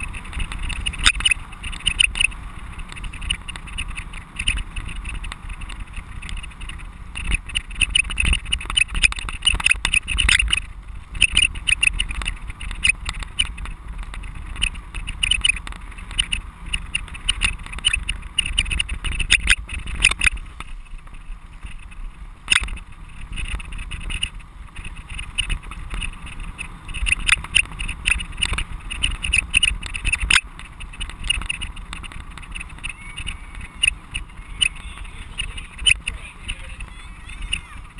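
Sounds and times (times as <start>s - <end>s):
camera rattling on bike mount: 0.0s - 36.9s
wind rumble on microphone: 0.0s - 37.9s.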